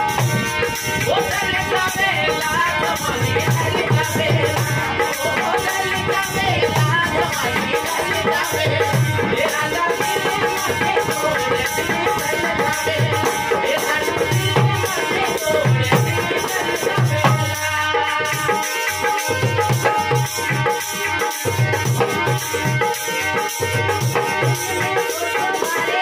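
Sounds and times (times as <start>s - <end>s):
hand drum beating: 0.0s - 26.0s
harmonium chords: 0.0s - 26.0s
man singing: 0.0s - 26.0s.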